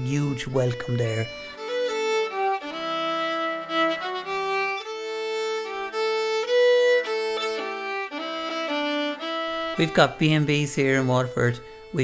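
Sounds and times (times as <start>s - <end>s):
instrumental music with held notes: 0.0s - 12.0s.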